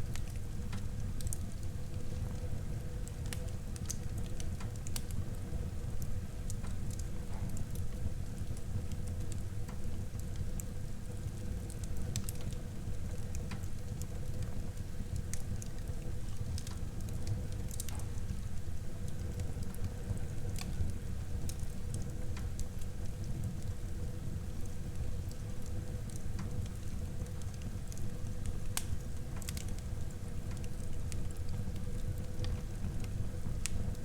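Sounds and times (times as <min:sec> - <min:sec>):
low rumble of flames: 0:00.0 - 0:34.0
burning wood crackling and popping: 0:00.1 - 0:34.0.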